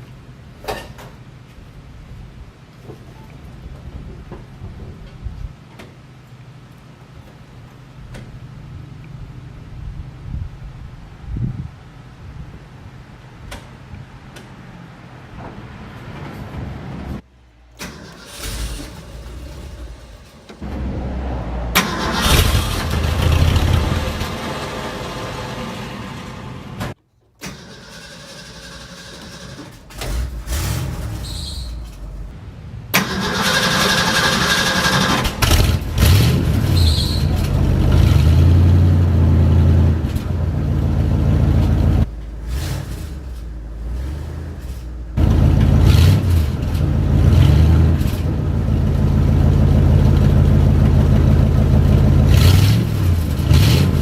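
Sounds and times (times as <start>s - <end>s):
truck engine idling and revving: 4.4s - 27.0s, 27.6s - 54.0s.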